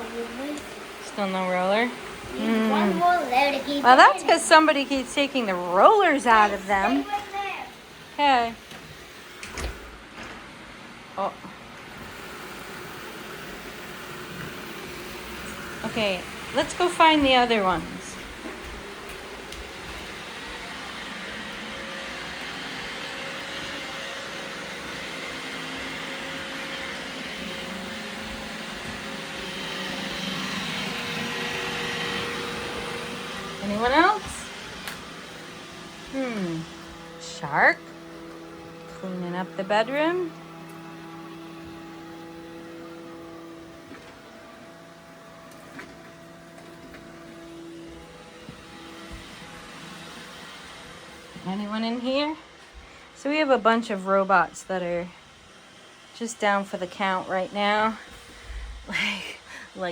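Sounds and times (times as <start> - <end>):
robot vacuum whirring: 0.0 - 59.9.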